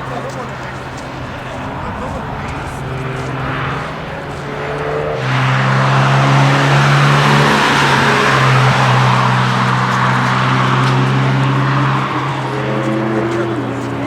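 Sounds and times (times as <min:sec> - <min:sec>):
car engine driving past: 0:00.0 - 0:14.0.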